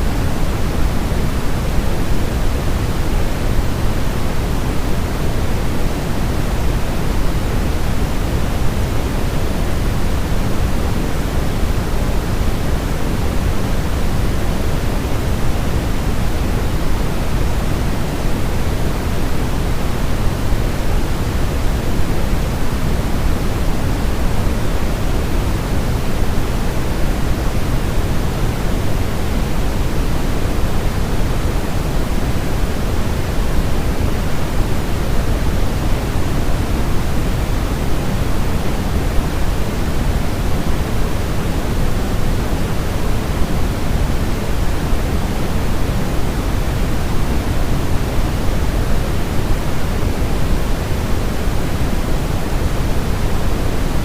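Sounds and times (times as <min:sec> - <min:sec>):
steady rushing white noise hiss: 0:00.0 - 0:54.0.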